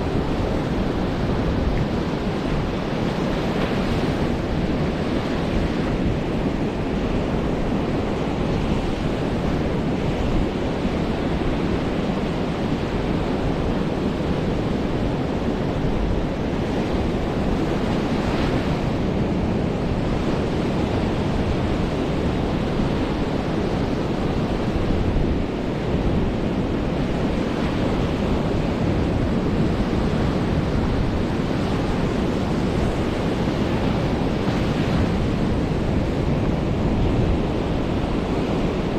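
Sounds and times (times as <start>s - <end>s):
ocean surf breaking: 0.0s - 38.9s
wind rumbling on microphone: 0.0s - 38.9s.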